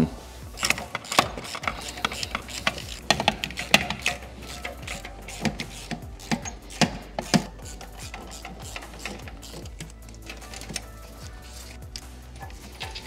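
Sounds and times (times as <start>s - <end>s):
hand tools clicking and knocking: 0.5s - 13.0s.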